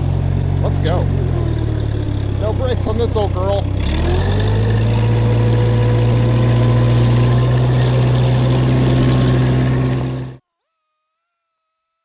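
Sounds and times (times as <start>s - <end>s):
trencher engine running: 0.0s - 10.4s.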